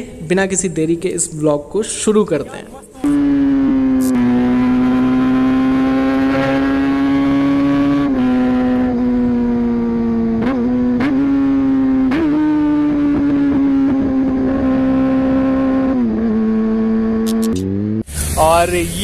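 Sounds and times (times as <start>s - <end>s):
motorcycle engine cruising: 3.0s - 18.6s.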